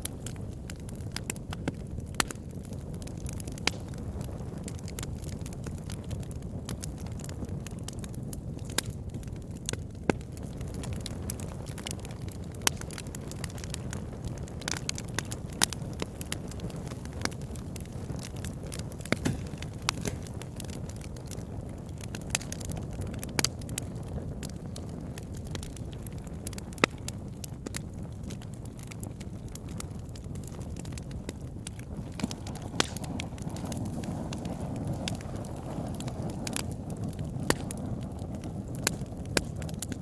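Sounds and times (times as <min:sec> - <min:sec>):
burning wood crackling and popping: 0:00.0 - 0:40.0
low rumble of flames: 0:00.0 - 0:40.0.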